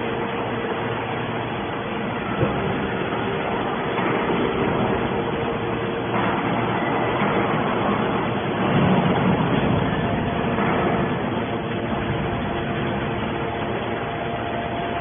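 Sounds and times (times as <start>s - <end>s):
baler mechanical drone: 0.0s - 15.0s.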